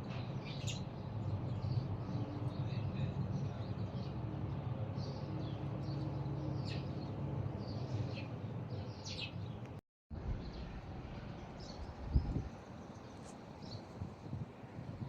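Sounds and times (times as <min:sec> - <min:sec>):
small birds chirping: 0:00.1 - 0:09.8, 0:10.4 - 0:15.0.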